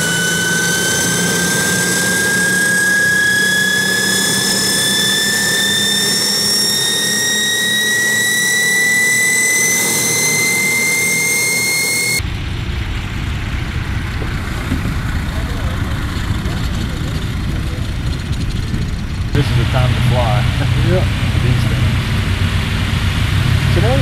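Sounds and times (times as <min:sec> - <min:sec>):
piston engine rumble: 0:00.0 - 0:24.0
turboprop engine whine: 0:00.0 - 0:24.0.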